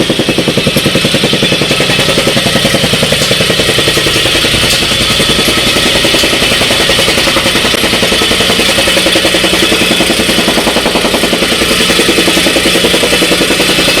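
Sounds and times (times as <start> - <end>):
tamping rammer pounding: 0.0 - 14.0.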